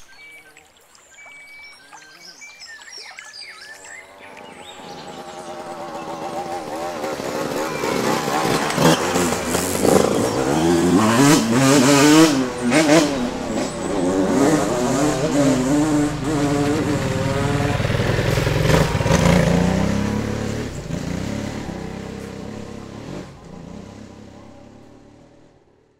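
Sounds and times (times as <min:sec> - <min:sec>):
motorcycle engine revving: 0:04.0 - 0:25.9.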